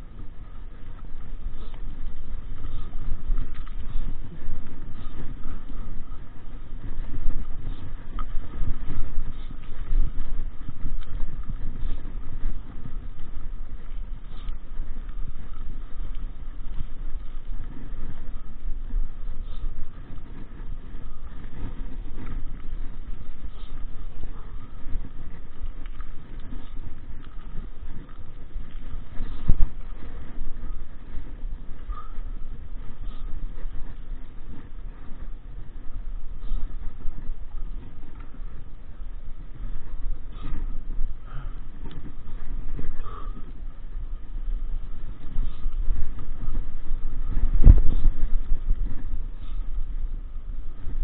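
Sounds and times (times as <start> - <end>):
bike tyres rumbling on rocky trail: 0.0 - 51.0.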